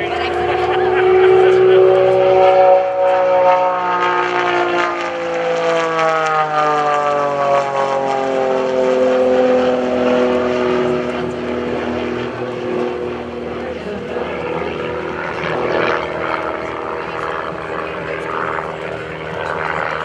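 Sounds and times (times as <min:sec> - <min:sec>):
higher tone sliding down: 0:00.0 - 0:17.7
airplane engine droning: 0:00.0 - 0:20.0.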